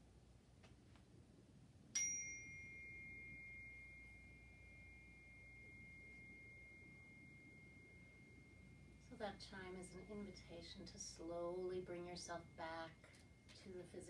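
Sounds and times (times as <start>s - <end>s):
meditation chime ringing: 2.0s - 14.0s.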